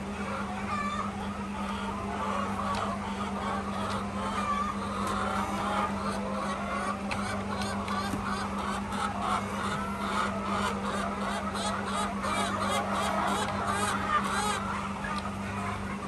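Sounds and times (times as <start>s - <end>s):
hens squawking and clucking: 0.0s - 16.0s
steady low hum: 0.0s - 16.0s.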